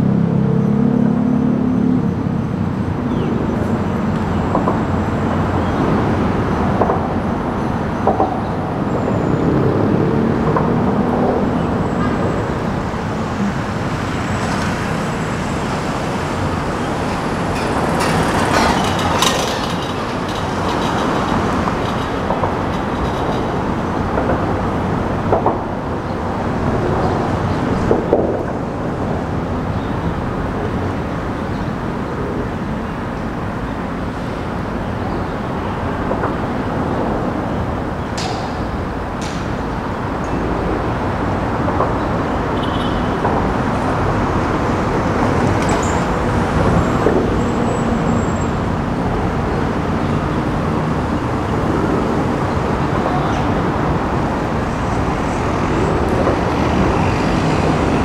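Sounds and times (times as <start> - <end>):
traffic rumble: 0.0 - 58.0.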